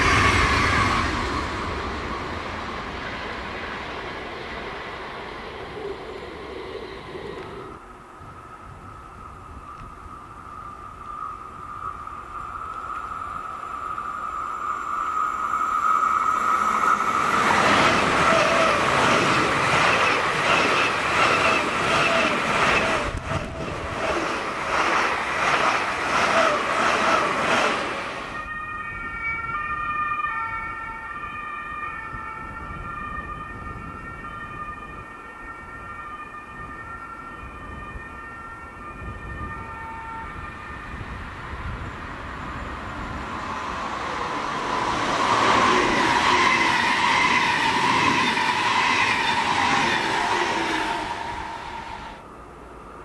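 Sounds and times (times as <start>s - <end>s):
distant electric train whining: 0.0s - 53.0s
electric train high whine: 0.0s - 53.0s
rushing wheel and rail noise: 0.0s - 53.0s.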